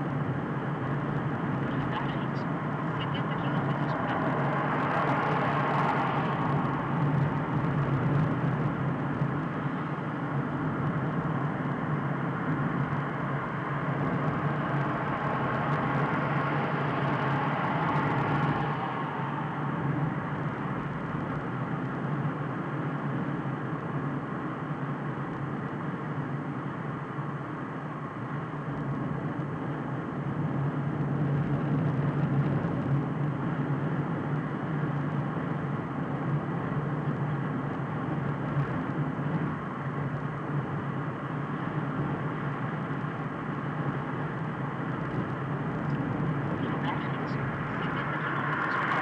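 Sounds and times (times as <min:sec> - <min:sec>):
car road noise inside cabin: 0:00.0 - 0:49.0.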